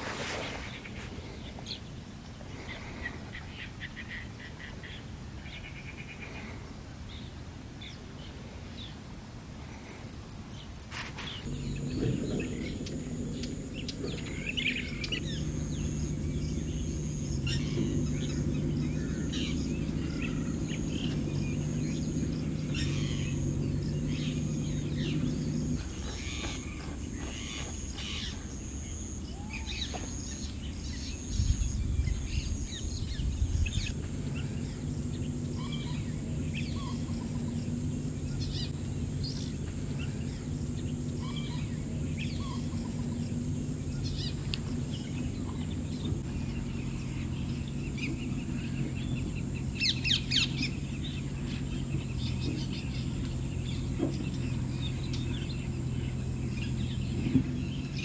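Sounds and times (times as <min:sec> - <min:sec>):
steady low hum: 0:00.0 - 0:58.0
wild birds chirping: 0:00.0 - 0:58.0.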